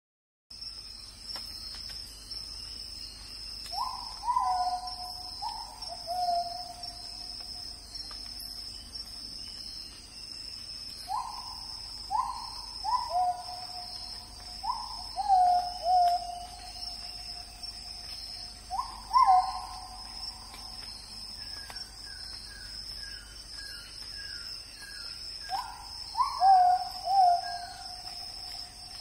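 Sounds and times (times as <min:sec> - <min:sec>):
insects trilling: 0:00.6 - 0:29.0.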